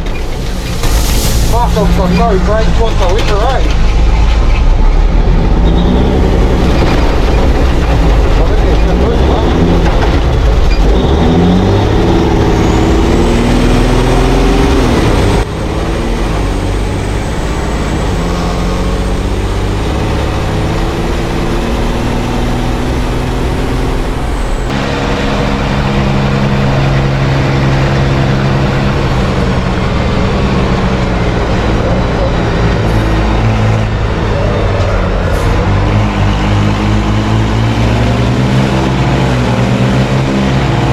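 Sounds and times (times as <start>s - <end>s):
diesel truck engine revving: 0.0s - 40.9s.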